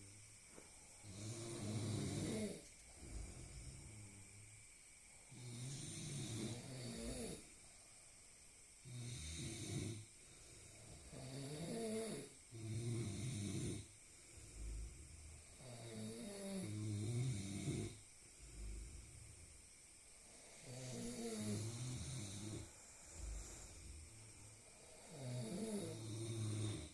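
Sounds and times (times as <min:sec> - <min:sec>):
rattling snores: 0:01.0 - 0:04.5, 0:05.2 - 0:07.5, 0:08.8 - 0:19.6, 0:20.2 - 0:26.9.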